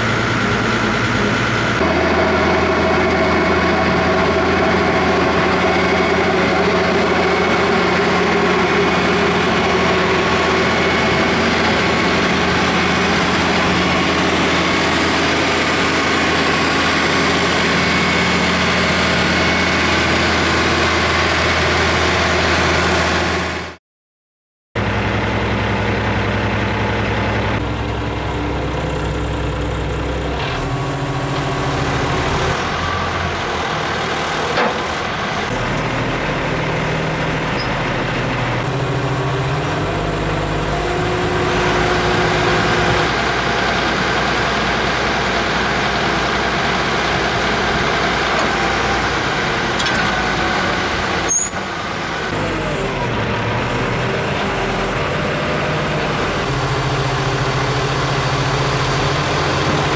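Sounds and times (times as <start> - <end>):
snow blower engine running: 0.0 - 23.8, 24.8 - 59.9.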